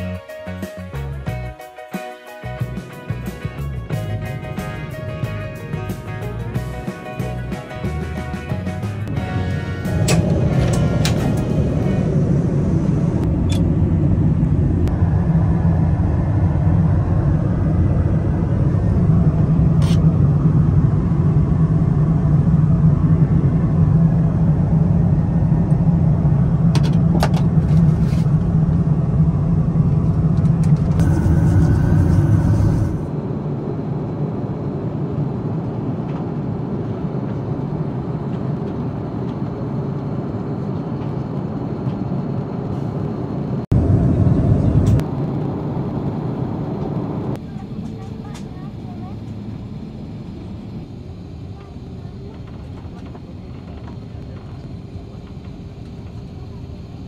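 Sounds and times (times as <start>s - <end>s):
airliner cabin drone: 2.6s - 57.0s.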